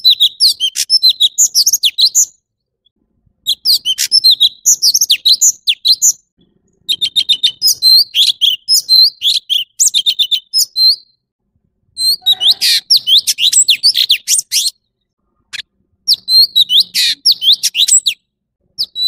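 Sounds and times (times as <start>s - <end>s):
bird singing whistled notes: 0.0s - 2.4s, 3.4s - 11.3s, 12.0s - 14.9s, 16.1s - 19.0s.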